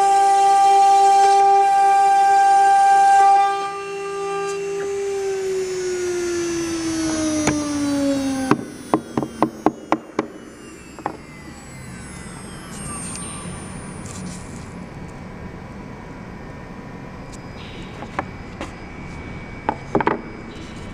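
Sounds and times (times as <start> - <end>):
cnc router humming: 0.0 - 20.9
whining tones sliding in pitch: 0.0 - 20.9.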